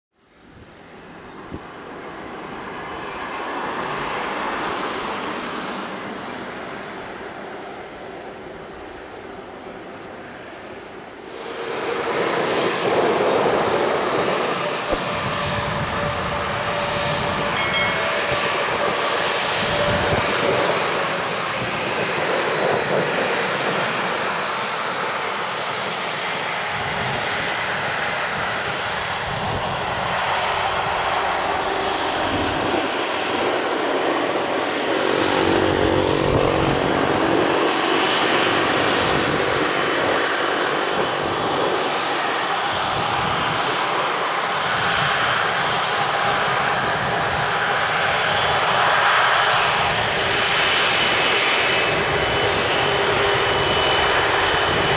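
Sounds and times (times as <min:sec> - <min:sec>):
jet engines at taxi power: 0:00.1 - 0:54.9.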